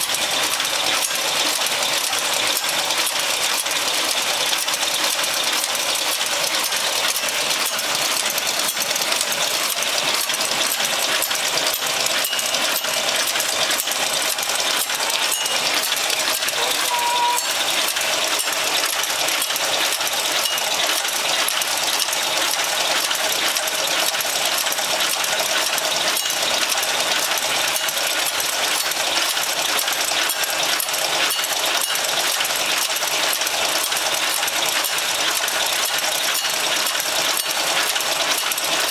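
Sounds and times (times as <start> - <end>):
machine mechanical clatter: 0.0 - 38.9.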